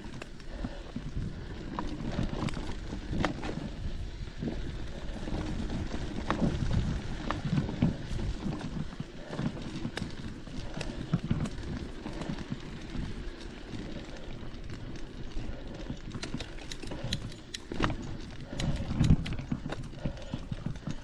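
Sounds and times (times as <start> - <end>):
footsteps on a trail: 0.0 - 21.0.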